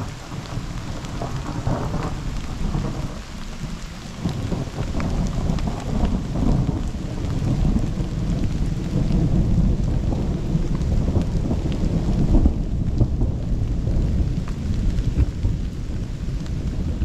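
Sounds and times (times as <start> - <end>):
low rumble of thunder: 0.0 - 17.0
sharp raindrop hits: 0.0 - 17.0
steady rain: 0.0 - 17.0.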